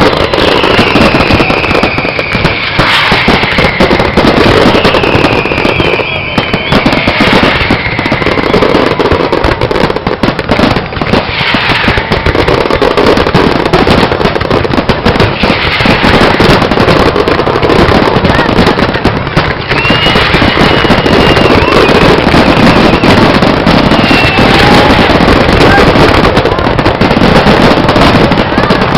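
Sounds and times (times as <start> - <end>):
fireworks bangs and crackles: 0.0 - 28.9
fireworks whistles: 0.0 - 28.9.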